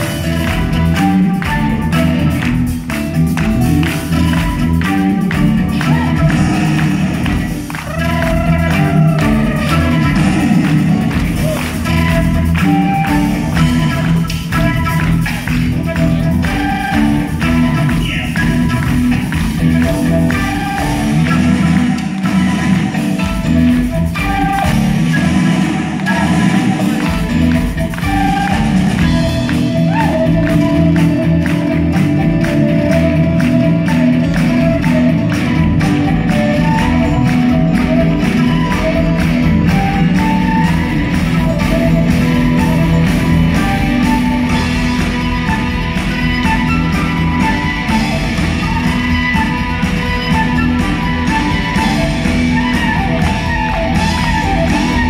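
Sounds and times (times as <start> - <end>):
bass guitar: 0.0 - 55.0
drums: 0.0 - 55.0
electric guitar: 0.0 - 55.0
flute melody with vibrato: 0.0 - 55.0
live rock band playing: 0.0 - 55.0.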